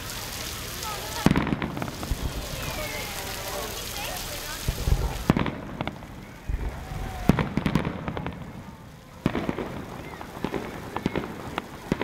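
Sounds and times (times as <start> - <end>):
crackling firework pops: 0.8 - 3.2, 3.8 - 12.0
firework bangs: 0.8 - 12.0.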